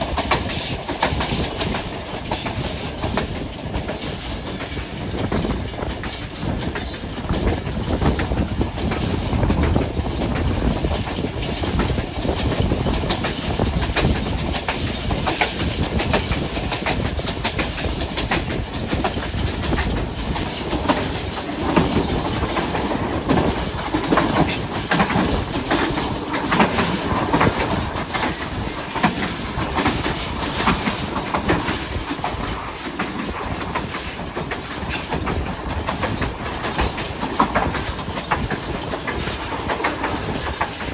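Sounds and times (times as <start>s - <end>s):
train rumbling along track: 0.0s - 40.9s
wheels clattering over rail joints: 0.0s - 40.9s.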